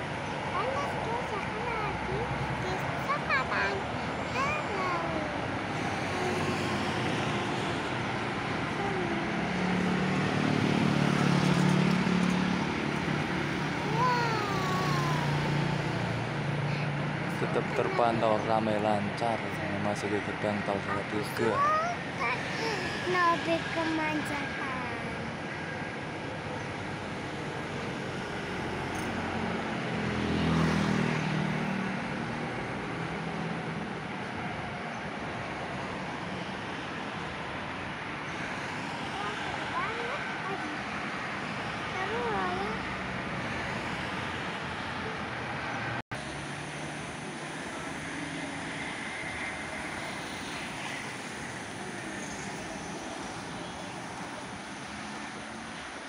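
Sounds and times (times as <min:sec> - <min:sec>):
cars passing: 0:00.0 - 0:56.0
highway traffic noise: 0:00.0 - 0:56.0.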